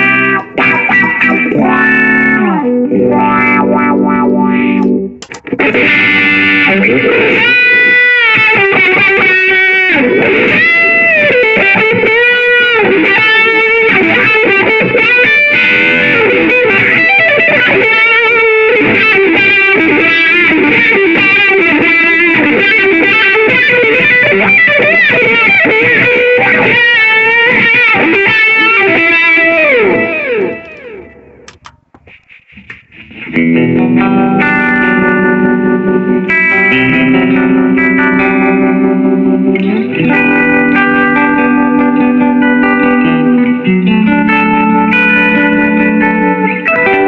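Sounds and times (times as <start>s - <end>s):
electric guitar lead line: 0.0s - 47.0s.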